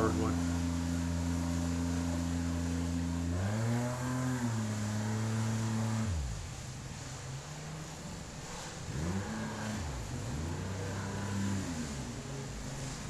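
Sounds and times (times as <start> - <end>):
outboard motor revving: 0.0 - 13.0.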